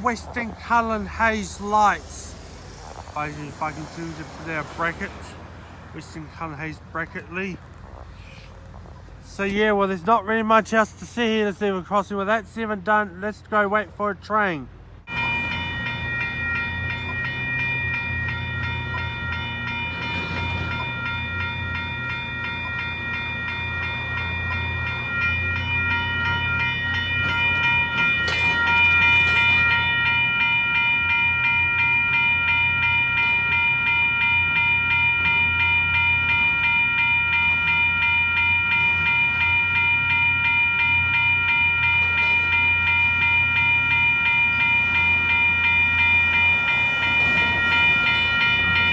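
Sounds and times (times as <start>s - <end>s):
level crossing bells ringing: 0.0s - 7.6s, 12.0s - 48.9s
approaching train rumble: 0.0s - 48.9s.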